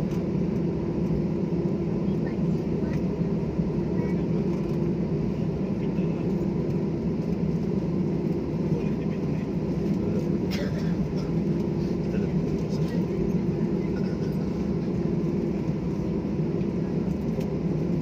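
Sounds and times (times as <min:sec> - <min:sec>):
airliner cabin rumble and hum: 0:00.0 - 0:18.0.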